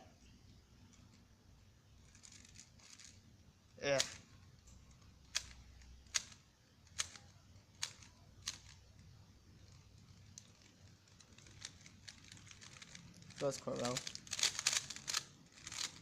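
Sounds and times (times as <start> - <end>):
puzzle cube clicking: 2.0 - 3.2, 3.8 - 16.0.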